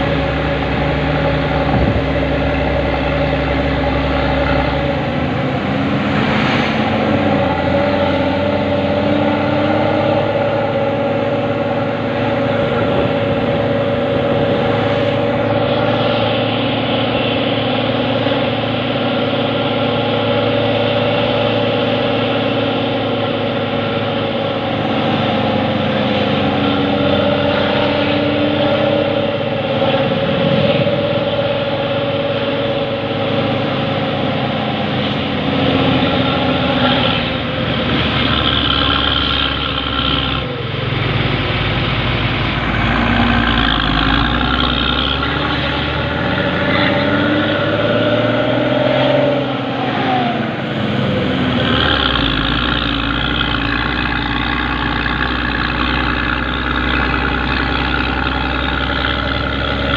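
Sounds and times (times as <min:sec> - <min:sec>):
bus diesel engine under load: 0:00.0 - 0:59.9.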